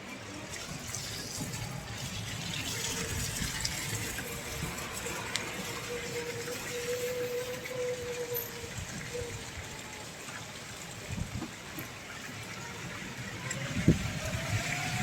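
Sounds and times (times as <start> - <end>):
water pouring and gushing: 0.0 - 15.0.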